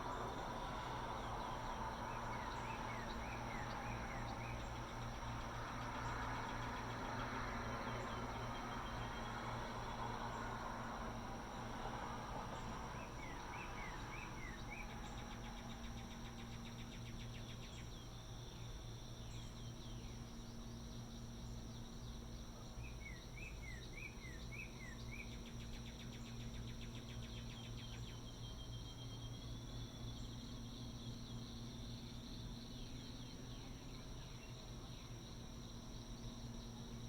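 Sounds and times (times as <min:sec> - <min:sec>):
insects droning and trilling: 0:00.0 - 0:37.0
low mechanical hum: 0:00.0 - 0:37.0.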